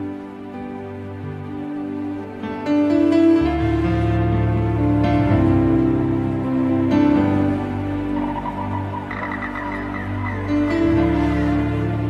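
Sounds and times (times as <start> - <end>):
soft music of held notes: 0.0 - 12.0.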